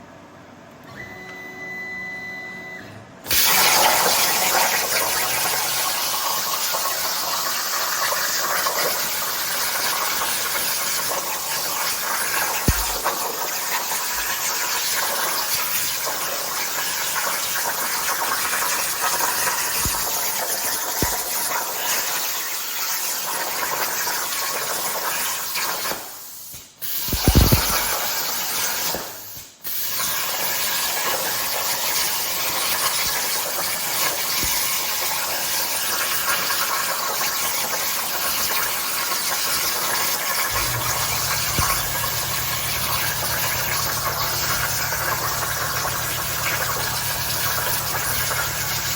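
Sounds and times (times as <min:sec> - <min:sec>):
plasma torch hissing: 0:03.3 - 0:48.9.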